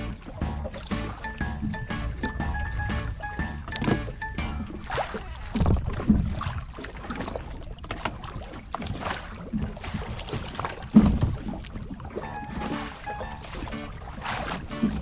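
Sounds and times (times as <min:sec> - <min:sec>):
water sloshing around boat: 0:00.0 - 0:15.0.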